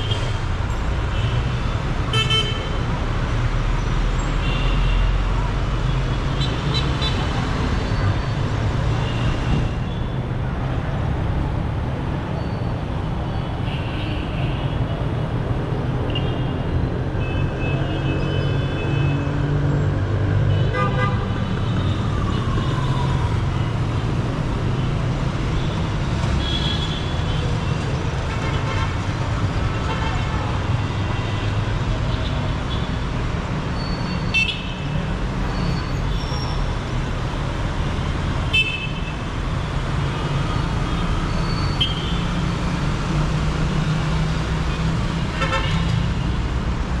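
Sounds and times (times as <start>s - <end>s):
traffic engines droning: 0.0s - 47.0s.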